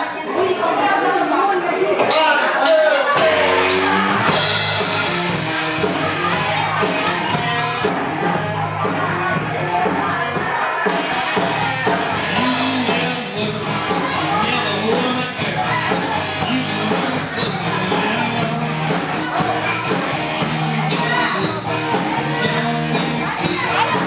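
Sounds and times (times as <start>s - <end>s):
live rock band playing: 2.1s - 24.0s.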